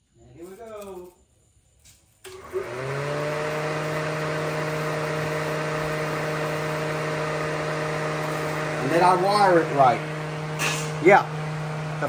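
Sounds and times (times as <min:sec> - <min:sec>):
electric cooling fan whirring: 0:02.2 - 0:12.0.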